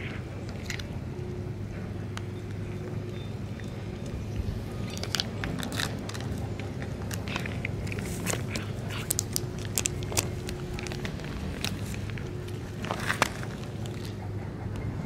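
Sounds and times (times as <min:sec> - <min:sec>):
cat chewing crunchily: 0:00.0 - 0:14.4
steady low hum: 0:00.0 - 0:15.0.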